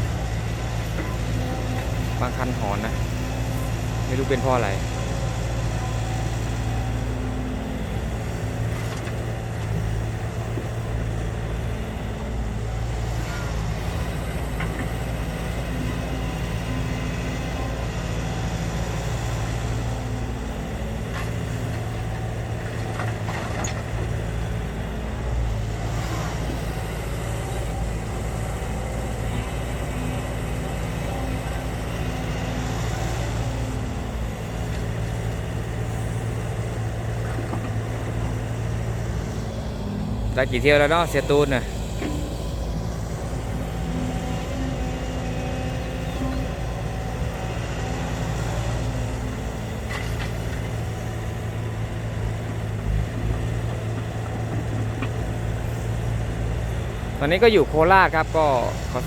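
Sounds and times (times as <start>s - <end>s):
excavator diesel engine working: 0.0s - 59.0s.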